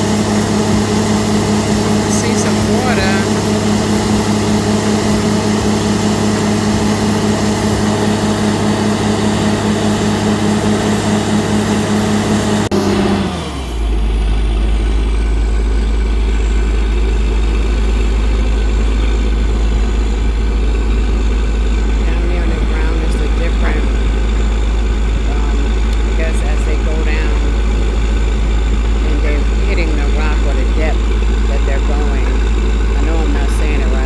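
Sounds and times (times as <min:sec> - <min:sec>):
deep drone: 0:00.0 - 0:34.0
heavy engine running: 0:00.0 - 0:34.0.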